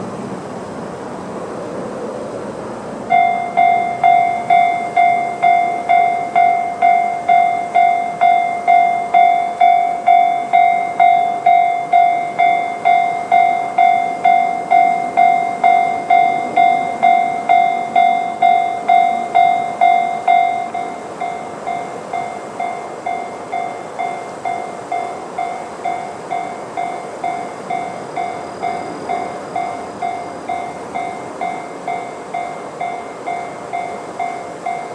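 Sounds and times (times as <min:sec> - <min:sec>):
level crossing alarm bell: 0:03.1 - 0:34.9.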